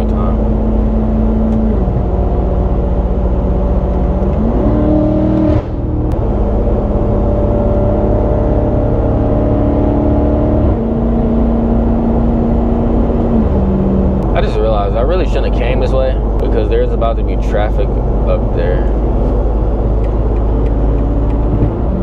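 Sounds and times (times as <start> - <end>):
car engine revving while driving: 0.0 - 22.0.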